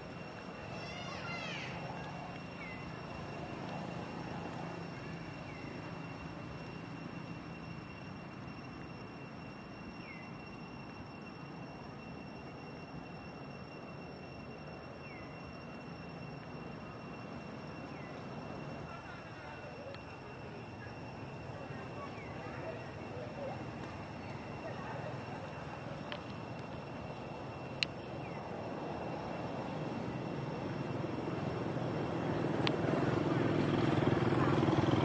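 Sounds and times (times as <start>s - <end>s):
constant high-pitched tone: 0.0s - 35.0s.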